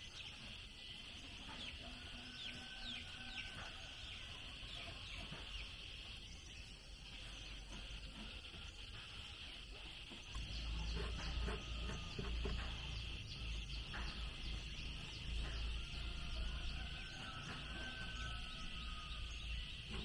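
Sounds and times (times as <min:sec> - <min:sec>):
chickens clucking: 0:00.0 - 0:20.0
insects droning: 0:00.0 - 0:20.0.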